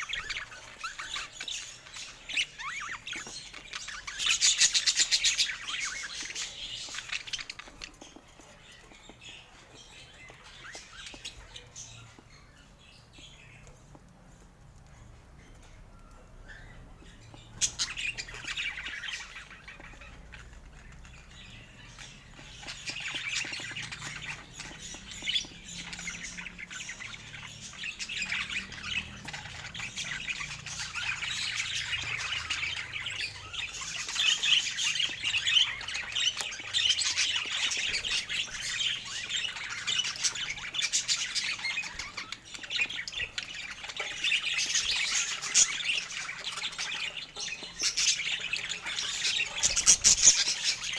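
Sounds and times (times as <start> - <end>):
budgerigars chattering: 0.0 - 12.2, 16.4 - 50.9.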